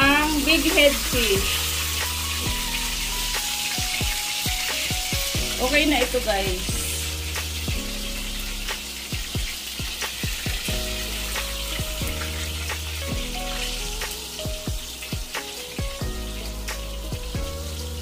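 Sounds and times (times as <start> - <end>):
background music: 0.0 - 18.0
fish frying in hot oil: 0.0 - 18.0.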